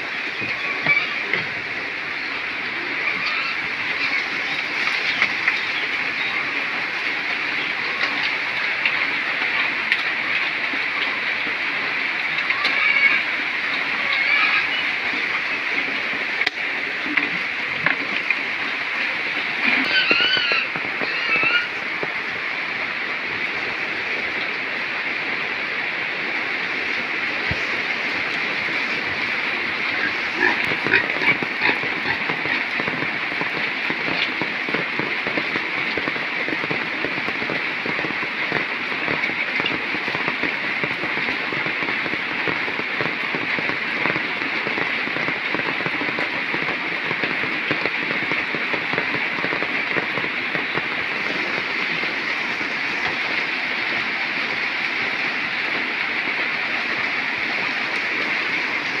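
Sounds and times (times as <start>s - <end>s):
running and splashing water: 0.0s - 59.0s.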